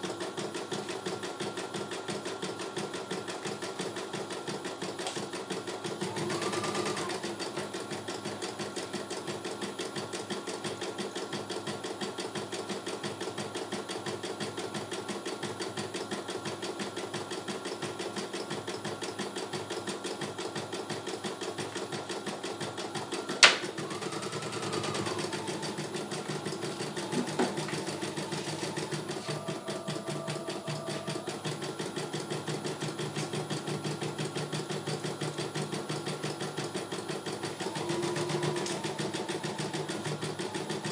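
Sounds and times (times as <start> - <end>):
embroidery machine stitching: 0.0 - 40.9.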